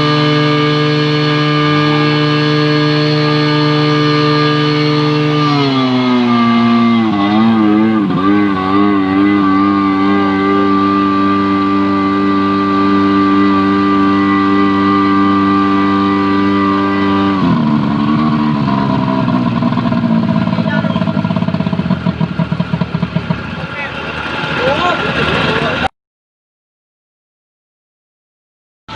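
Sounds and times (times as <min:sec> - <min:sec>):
pump engine running: 0:00.0 - 0:25.9.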